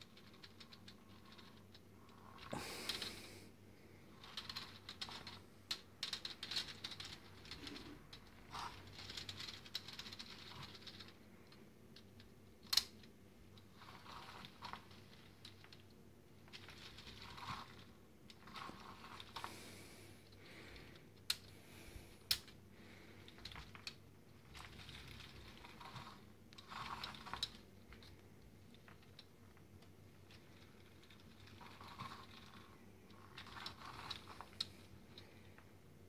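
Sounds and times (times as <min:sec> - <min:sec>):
plastic gears clicking and rattling: 0:00.0 - 0:03.0, 0:04.1 - 0:19.5, 0:23.2 - 0:35.6.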